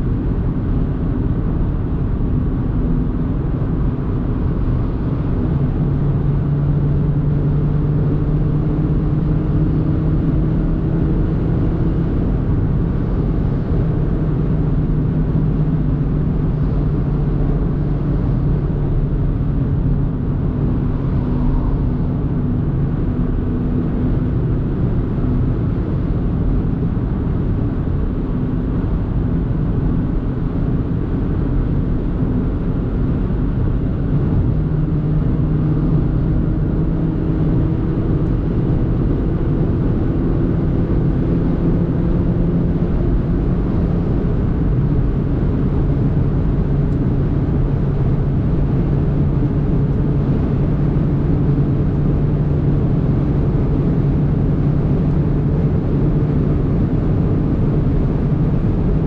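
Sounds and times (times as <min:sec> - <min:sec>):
car engine humming: 0:00.0 - 0:59.0.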